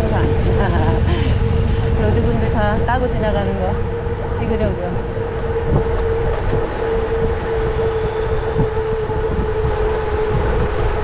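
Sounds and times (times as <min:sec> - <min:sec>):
bike humming tone: 0:00.0 - 0:11.0
wind rumbling on microphone: 0:00.0 - 0:11.0.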